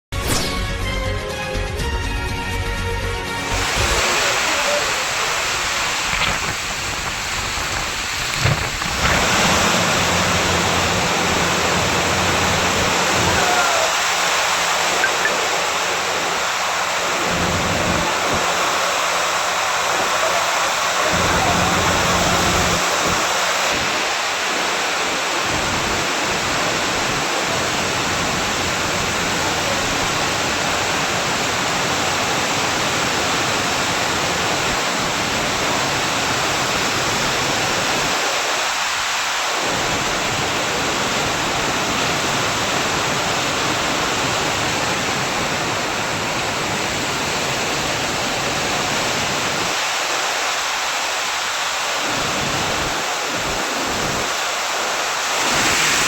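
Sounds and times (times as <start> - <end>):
heavy rain pouring: 3.3 - 56.0.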